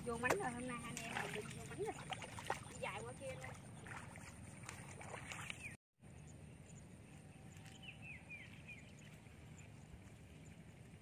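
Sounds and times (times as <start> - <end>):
footsteps in muddy water: 0.0 - 5.8, 7.3 - 11.0.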